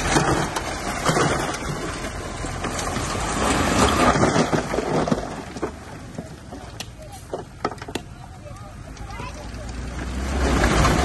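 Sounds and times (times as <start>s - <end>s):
bulldozer engine under load: 0.0s - 11.0s
dirt and stone crunching: 0.0s - 11.0s.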